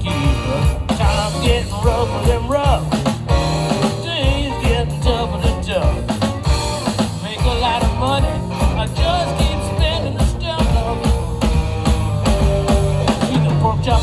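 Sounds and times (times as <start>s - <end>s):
bending lead guitar lines: 0.0s - 14.0s
blues band playing: 0.0s - 14.0s
drum kit and bass beat: 0.0s - 14.0s.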